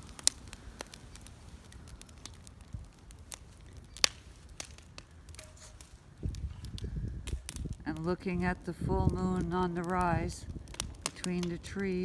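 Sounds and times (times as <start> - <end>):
bonfire crackling: 0.0 - 12.0
low rumble of burning fire: 0.0 - 12.0
sharp pops from fire: 0.0 - 12.0.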